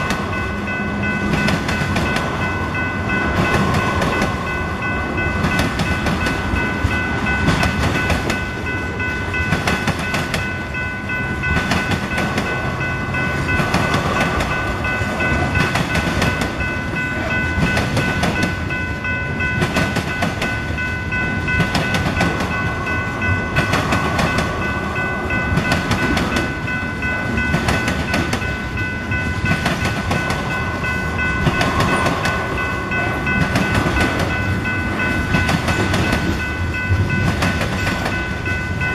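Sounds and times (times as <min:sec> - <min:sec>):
train rumble: 0:00.0 - 0:38.9
train wheels clacking over joints: 0:01.0 - 0:38.9.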